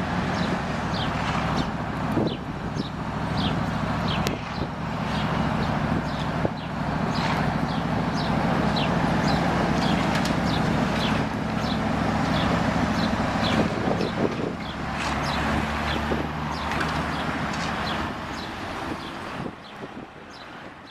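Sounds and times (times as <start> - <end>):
heavy engine running: 0.0 - 20.9.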